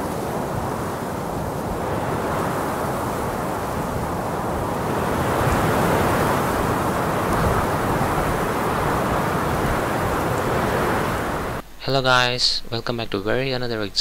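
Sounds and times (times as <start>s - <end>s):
rushing wind: 0.0s - 11.6s.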